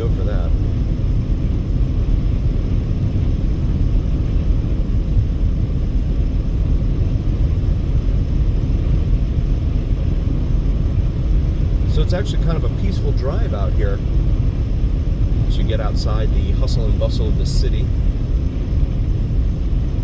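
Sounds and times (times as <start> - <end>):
car driving at highway speed: 0.0 - 20.0.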